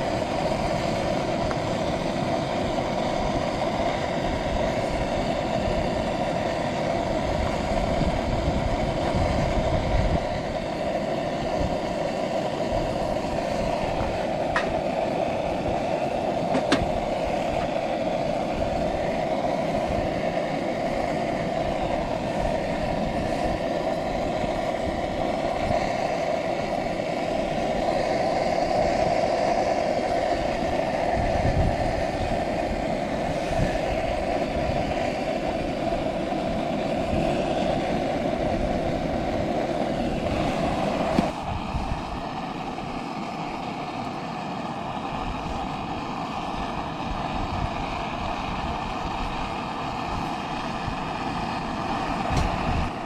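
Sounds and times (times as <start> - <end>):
gas burner roaring: 0.0 - 53.0.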